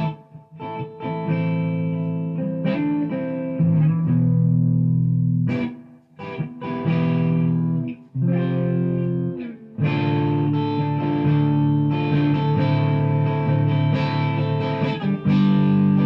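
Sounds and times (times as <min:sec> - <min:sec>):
overdriven electric guitar chords: 0:00.0 - 0:16.0.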